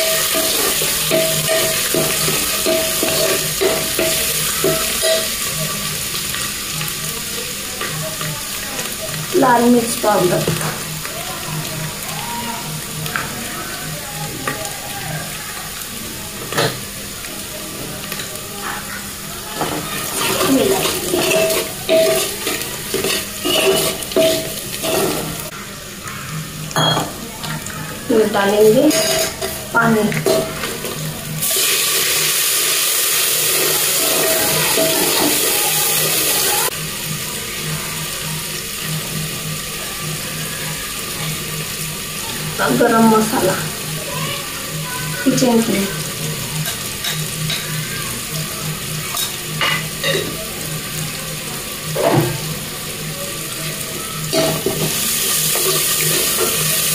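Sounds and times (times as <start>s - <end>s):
onions sizzling in hot oil: 0.0s - 56.9s.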